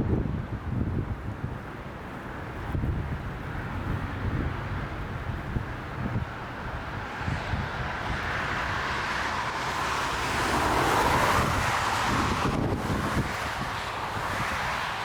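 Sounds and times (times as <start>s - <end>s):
wind buffeting microphone: 0.0s - 15.0s
jet engines rushing: 0.5s - 15.0s.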